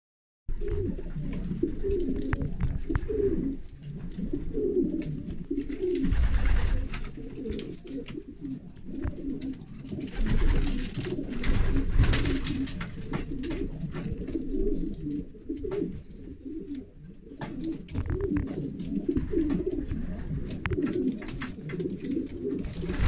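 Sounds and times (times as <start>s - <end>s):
pigeons cooing: 0.5s - 23.0s.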